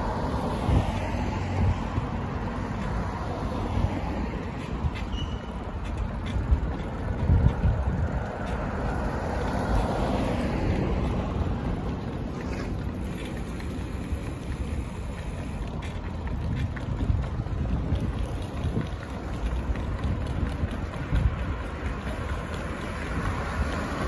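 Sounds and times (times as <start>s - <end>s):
car going by: 0.0s - 24.0s
street traffic: 0.0s - 24.0s
wind noise on microphone: 0.0s - 24.0s.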